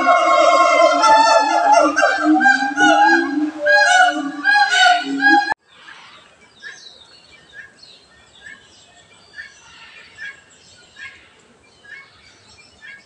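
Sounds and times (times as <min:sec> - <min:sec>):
small birds chirping: 0:01.8 - 0:13.0.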